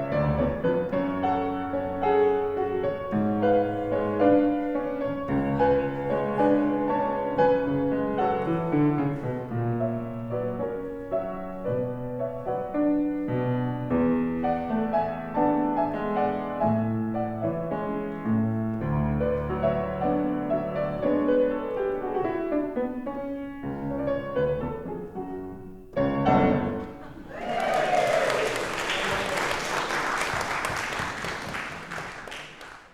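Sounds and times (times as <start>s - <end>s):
slow piano piece: 0.0s - 32.4s.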